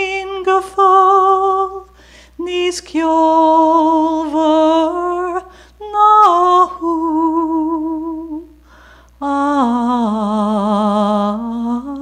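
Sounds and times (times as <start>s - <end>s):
woman singing unaccompanied: 0.0s - 8.6s, 9.2s - 12.0s.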